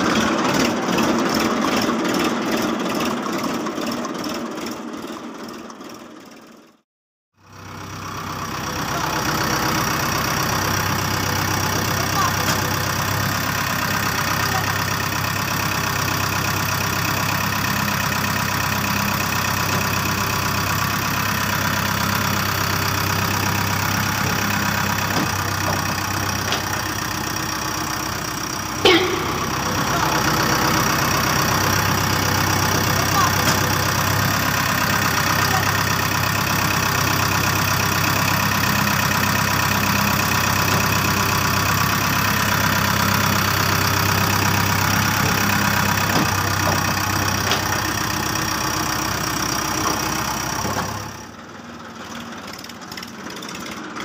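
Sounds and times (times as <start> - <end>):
engine-like idling drone: 7.4 - 54.0.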